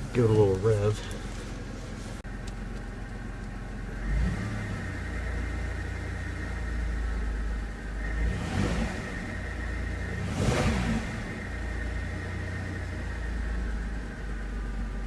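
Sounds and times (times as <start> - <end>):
minivan engine running rough and revving: 0.0 - 15.0.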